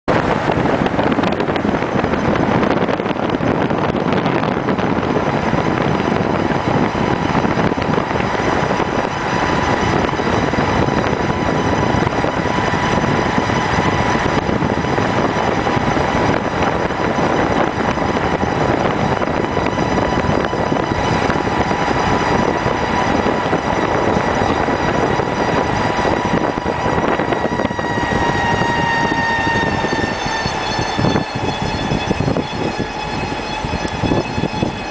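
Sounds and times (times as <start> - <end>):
high squealing wheel hub whine: 0.0 - 34.9
road and wind noise: 0.0 - 34.9.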